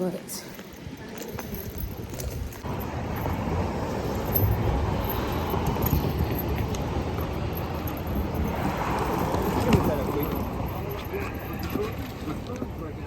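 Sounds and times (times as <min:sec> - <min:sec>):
car road and engine rumble: 0:01.8 - 0:13.0.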